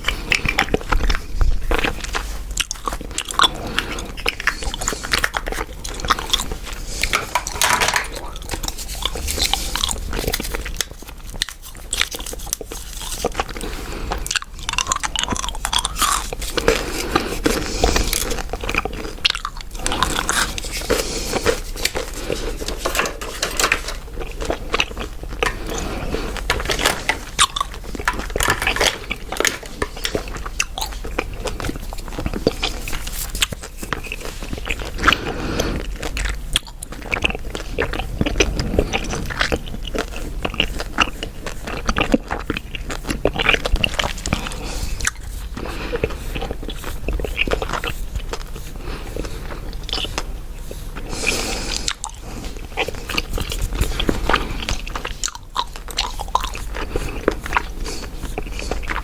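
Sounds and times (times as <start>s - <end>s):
gum chewing: 0.0s - 59.0s.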